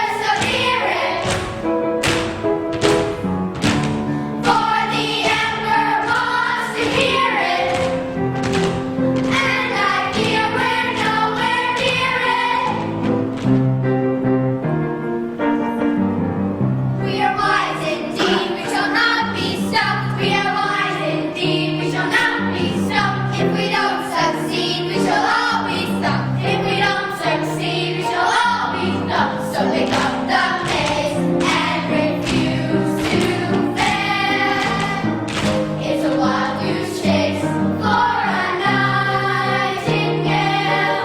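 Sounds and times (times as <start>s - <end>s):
children's chorus singing: 0.0s - 13.7s, 17.0s - 41.0s
instrumental accompaniment: 0.0s - 41.0s.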